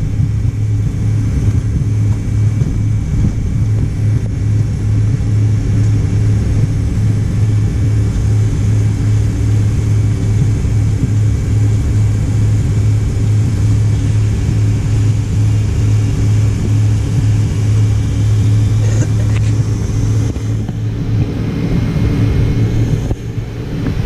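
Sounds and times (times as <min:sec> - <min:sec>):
airliner cabin rumble and hum: 0:00.0 - 0:24.0.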